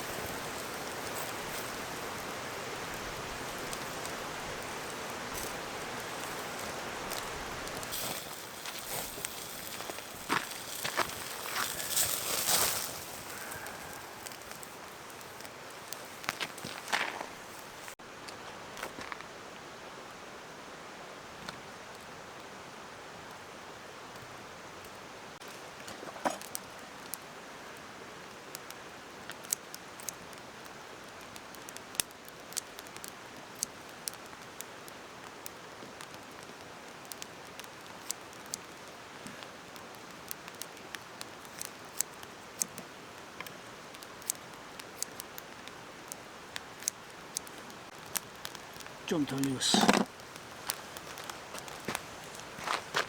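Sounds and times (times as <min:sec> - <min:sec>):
meat grilling hiss: 0:00.0 - 0:18.0, 0:26.6 - 0:53.0
wood fire crackling: 0:00.0 - 0:53.0.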